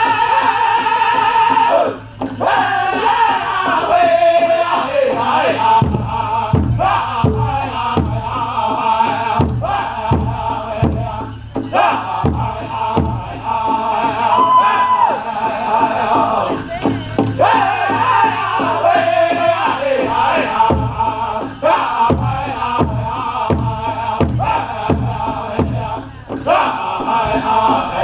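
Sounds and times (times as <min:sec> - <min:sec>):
group singing in unison: 0:00.0 - 0:16.8, 0:17.4 - 0:28.0
big drum steady beat: 0:00.0 - 0:28.0.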